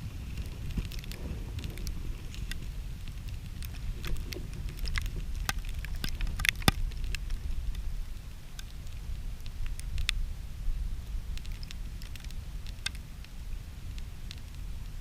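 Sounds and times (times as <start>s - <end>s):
campfire crackling and popping: 0.0s - 15.0s
wind on microphone: 0.0s - 15.0s.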